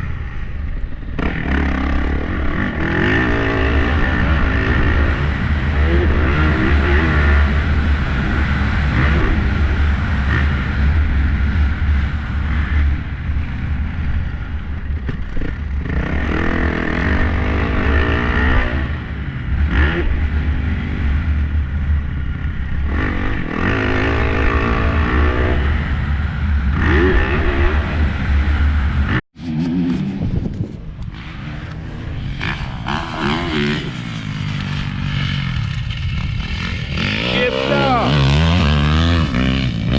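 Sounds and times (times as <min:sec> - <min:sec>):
wind rumble on microphone: 0:00.0 - 0:37.3
dirt bike engine revving: 0:01.1 - 0:30.5, 0:31.1 - 0:39.9.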